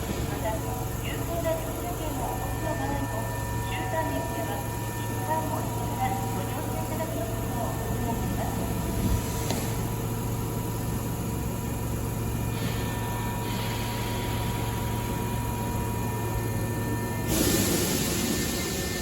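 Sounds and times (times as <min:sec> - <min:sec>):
electric train humming: 0:00.0 - 0:19.0.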